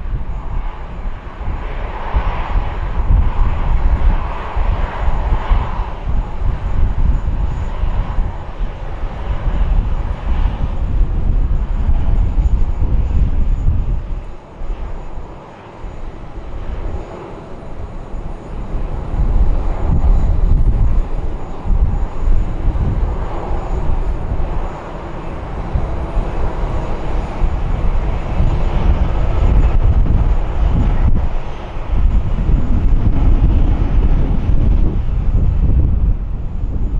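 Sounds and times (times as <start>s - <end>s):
jet engines rumbling: 0.0s - 36.9s.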